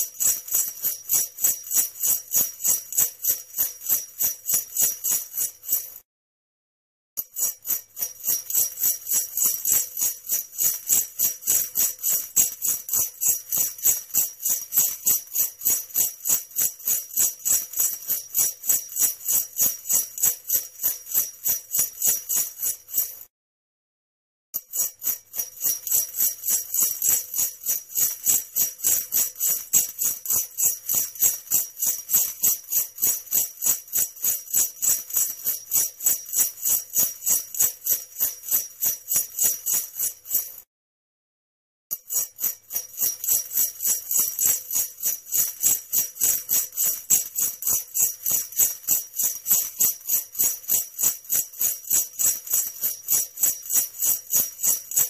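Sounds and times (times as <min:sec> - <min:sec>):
sleigh bells jingling: 0:00.0 - 0:06.0, 0:07.2 - 0:23.2, 0:24.6 - 0:40.6, 0:41.9 - 0:55.0.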